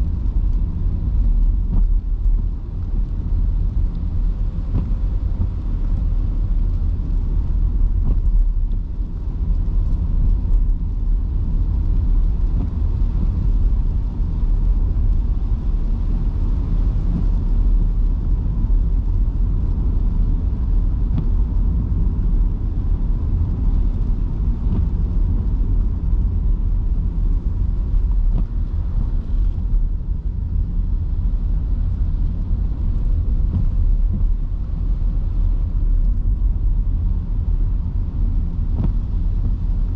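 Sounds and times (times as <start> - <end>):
rain: 0.0 - 39.9
road rumble: 0.0 - 39.9
tyres on wet road: 0.0 - 39.9.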